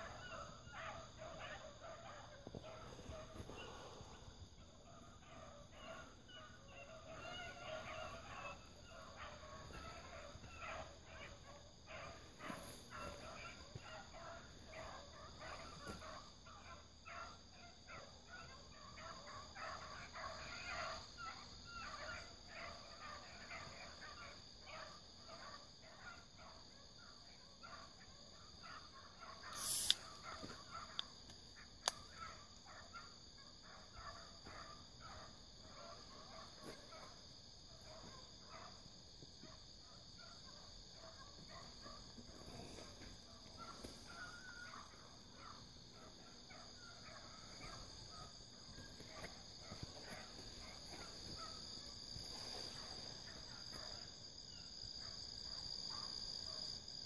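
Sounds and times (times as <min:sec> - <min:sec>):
dogs barking faintly: 0:00.0 - 0:57.0
night insects whining: 0:00.0 - 0:57.0.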